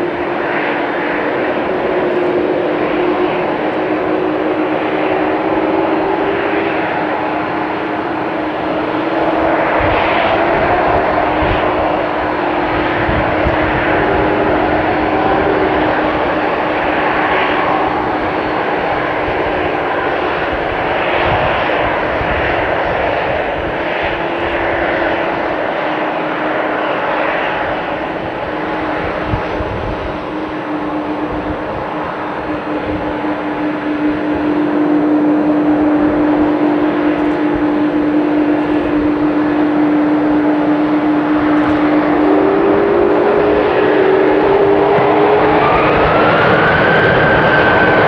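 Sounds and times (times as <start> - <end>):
jet engines running: 0.0 - 48.0
steady engine tone: 0.0 - 48.0.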